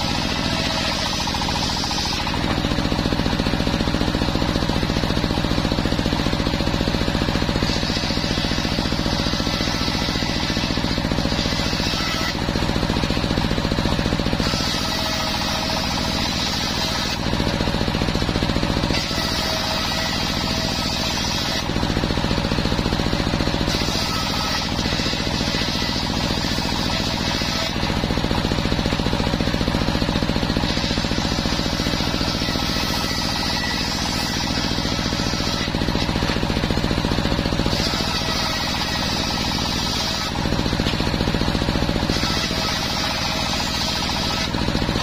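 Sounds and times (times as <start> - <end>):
engine running steadily: 0.0 - 45.0
saw blade ripping planks: 0.0 - 45.0.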